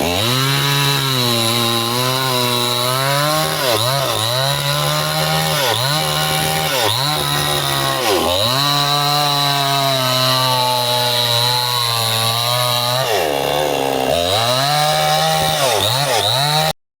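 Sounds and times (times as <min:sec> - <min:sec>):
chainsaw cutting tree trunk: 0:00.0 - 0:16.8.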